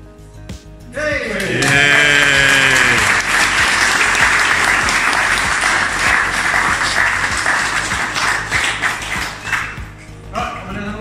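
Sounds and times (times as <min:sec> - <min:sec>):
people clapping: 0:01.2 - 0:10.7.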